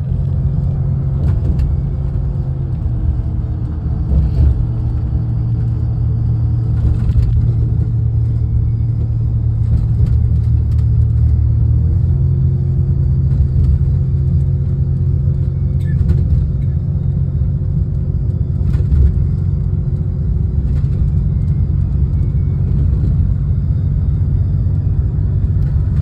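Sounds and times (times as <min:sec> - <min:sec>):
vehicle cruising road rumble: 0:00.0 - 0:26.0.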